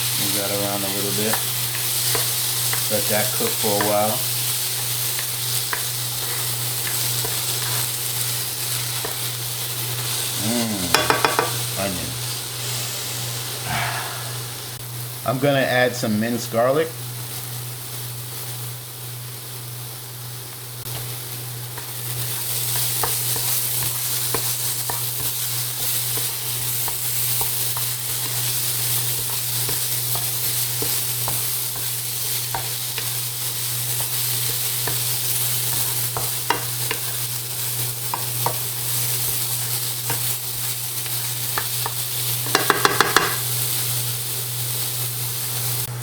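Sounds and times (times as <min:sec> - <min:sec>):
onions sizzling in oil: 0:00.0 - 0:46.0.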